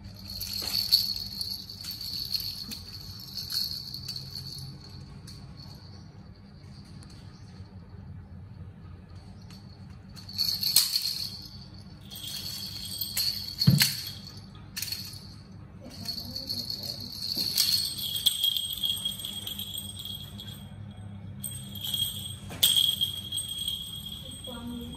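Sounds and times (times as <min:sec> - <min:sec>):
baby rattle jingling: 0:00.0 - 0:06.1, 0:10.1 - 0:20.8, 0:21.4 - 0:24.9.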